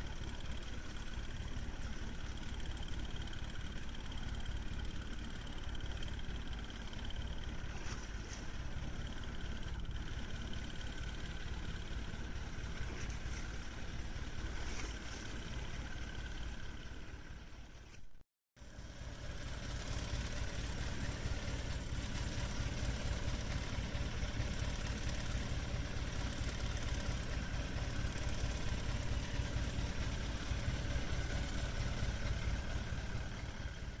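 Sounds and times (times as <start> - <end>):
boat engine low rumble: 0.0 - 34.0.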